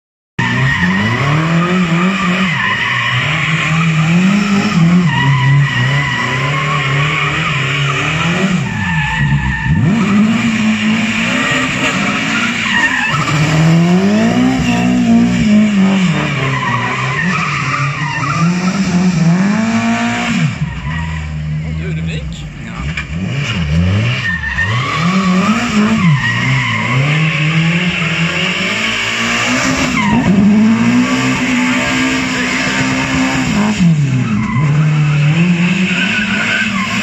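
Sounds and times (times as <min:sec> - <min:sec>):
tyres squealing on tarmac: 0:00.4 - 0:19.0, 0:24.2 - 0:37.0
car engine revving: 0:00.4 - 0:37.0.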